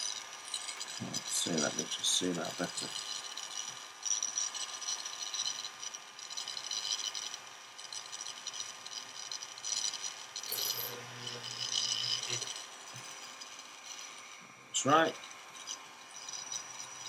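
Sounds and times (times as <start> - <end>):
mini drill whining: 0.0 - 17.0.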